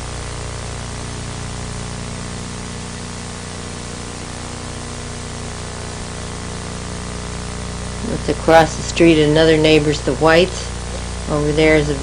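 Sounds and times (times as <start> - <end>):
low electrical hum: 0.0 - 12.0
steady hiss: 0.0 - 12.0.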